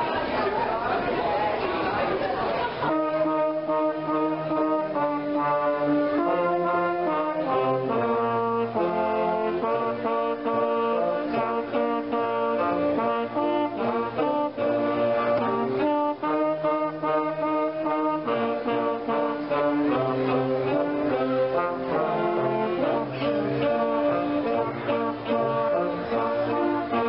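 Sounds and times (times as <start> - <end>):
concert band playing a carol: 2.6 - 27.0
trumpet: 2.7 - 27.0.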